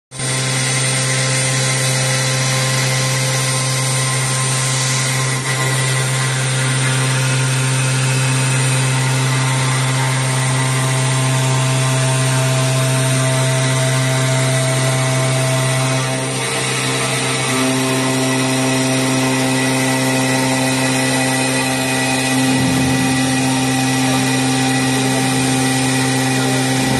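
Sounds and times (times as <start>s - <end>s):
router spindle milling: 0.2s - 26.9s.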